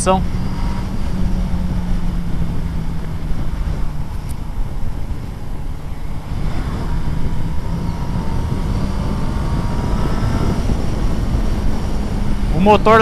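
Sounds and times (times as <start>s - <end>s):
motorcycle engine accelerating: 0.0s - 13.0s
wind rush on microphone: 0.0s - 13.0s.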